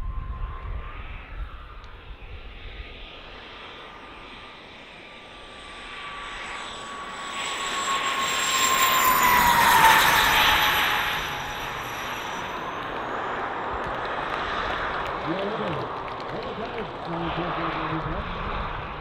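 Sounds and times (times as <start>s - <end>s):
model jet turbines whining: 0.0s - 19.0s.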